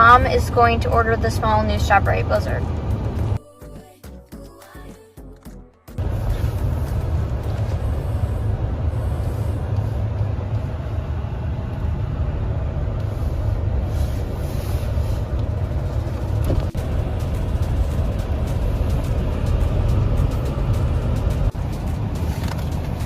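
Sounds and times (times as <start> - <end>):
car road rumble: 0.0 - 3.4, 5.9 - 23.0.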